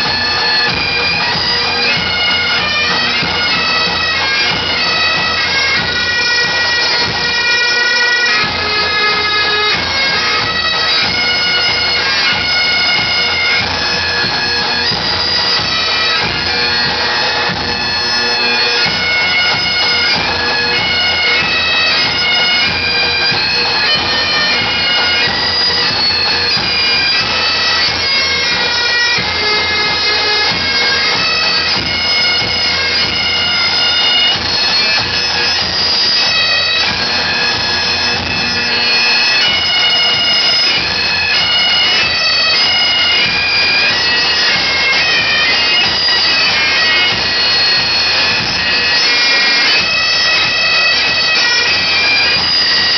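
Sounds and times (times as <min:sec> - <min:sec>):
bagpipes playing a tune: 0:00.0 - 0:52.9.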